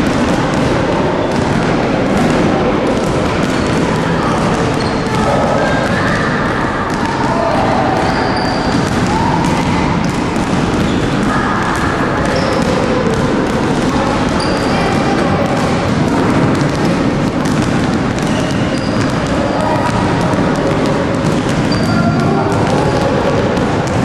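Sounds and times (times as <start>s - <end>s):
basketballs bouncing on wooden floor: 0.0s - 24.0s
voices: 0.0s - 24.0s.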